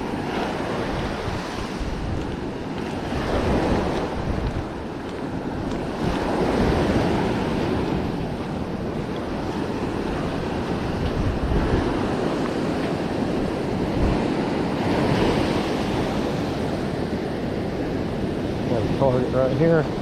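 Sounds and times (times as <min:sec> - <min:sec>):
ocean surf washing onto beach: 0:00.0 - 0:20.0
wind rumbling on microphone: 0:00.0 - 0:20.0.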